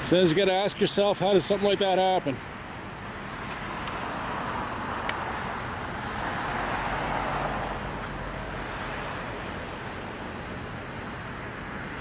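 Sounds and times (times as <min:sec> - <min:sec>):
passing cars hiss: 0:02.4 - 0:12.0.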